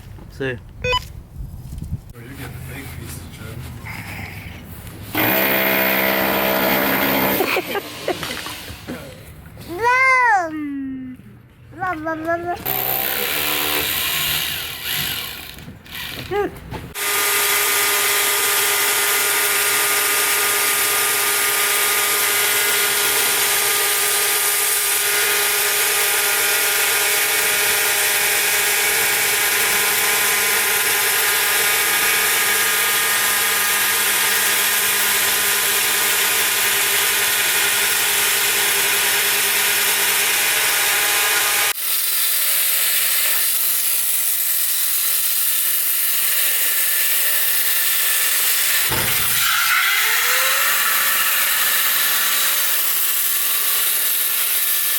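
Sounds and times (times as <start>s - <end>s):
power tool motor running: 5.1s - 8.9s, 12.6s - 54.9s.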